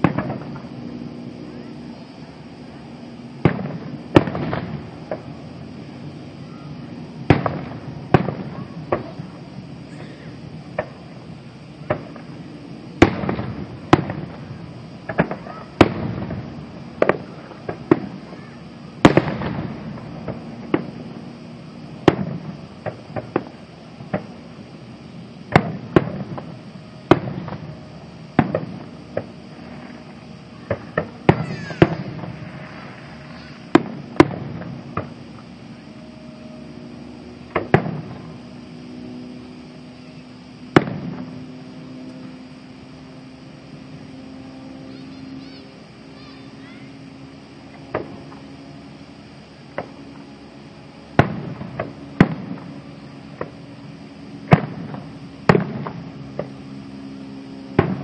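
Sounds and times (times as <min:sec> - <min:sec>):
fireworks bursting with bangs: 0:00.0 - 0:44.1, 0:44.9 - 0:57.0, 0:57.6 - 0:58.0.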